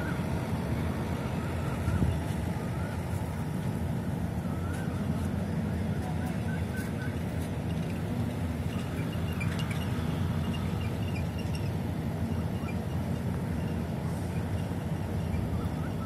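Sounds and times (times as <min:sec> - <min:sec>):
low rumble of site noise: 0:00.0 - 0:16.0.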